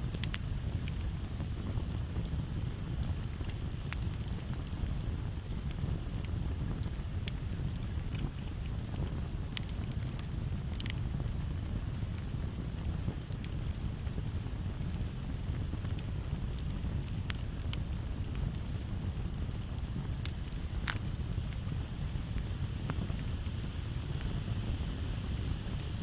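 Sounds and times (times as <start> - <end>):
campfire crackling and popping: 0.0 - 26.0
crickets trilling: 0.0 - 26.0
low rumble of breeze: 0.0 - 26.0.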